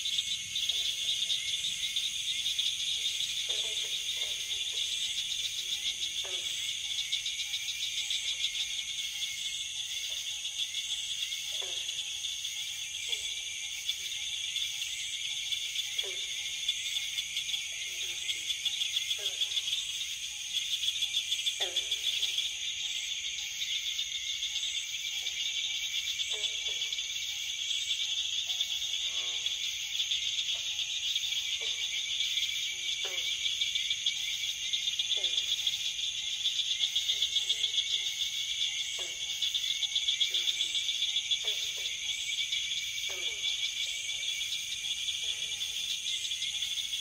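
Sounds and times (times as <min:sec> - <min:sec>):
frogs croaking: 0:00.0 - 0:47.0.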